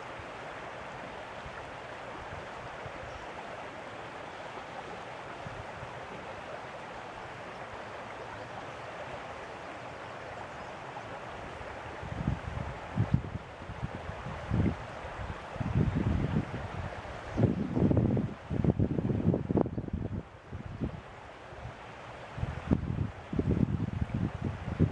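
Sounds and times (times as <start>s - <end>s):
rushing water: 0.0s - 24.9s.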